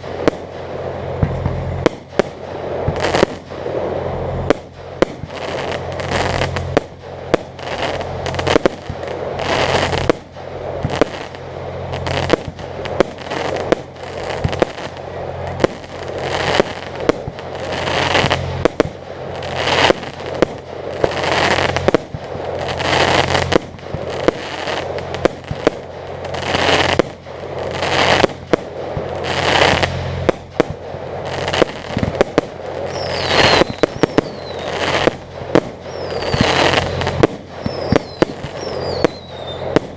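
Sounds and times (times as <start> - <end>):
falling firework whistles: 0.0 - 39.9
firework crackling: 0.0 - 39.9
firework shells bursting: 0.0 - 39.9
low steady hum: 0.0 - 39.9.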